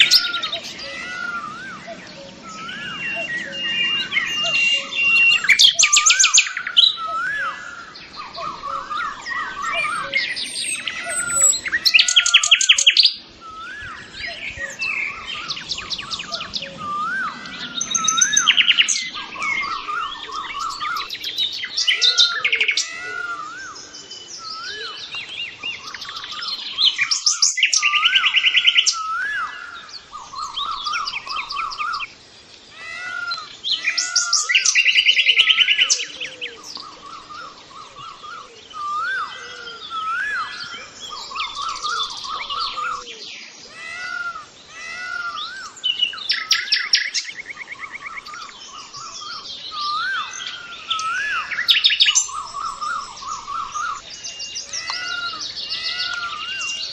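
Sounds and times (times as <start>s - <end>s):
songbirds chirping and singing: 0.0s - 56.9s.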